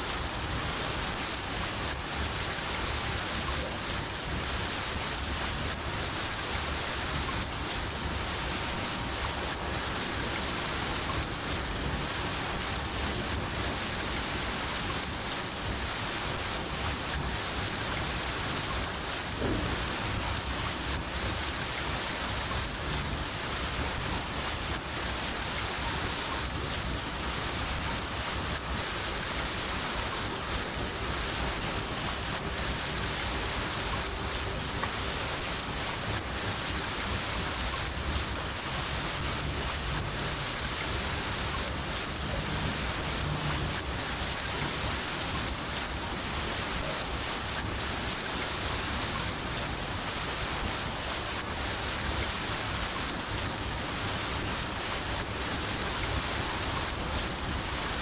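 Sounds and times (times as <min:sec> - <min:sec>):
cricket chirping: 0:00.0 - 0:58.0
steady rain: 0:00.0 - 0:58.0.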